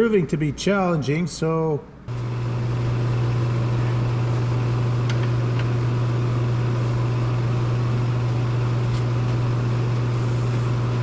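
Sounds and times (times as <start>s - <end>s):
low machine hum: 2.1s - 11.0s.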